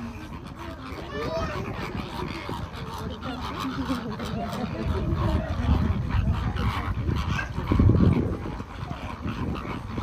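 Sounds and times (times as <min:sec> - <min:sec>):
flamingos honking: 0:00.0 - 0:10.0.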